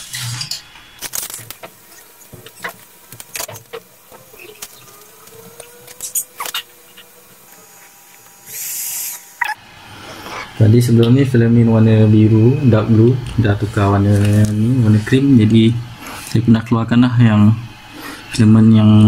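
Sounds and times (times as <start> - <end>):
faint whine: 0.0 - 19.0.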